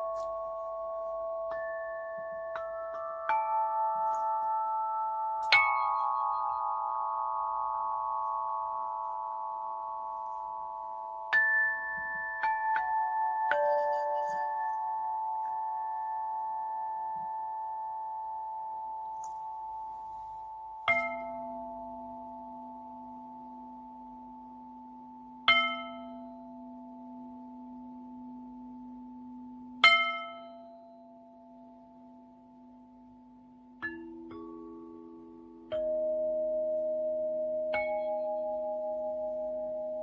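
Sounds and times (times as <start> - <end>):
low steady tone: 0.0 - 40.0
struck bell-like tones: 0.0 - 40.0.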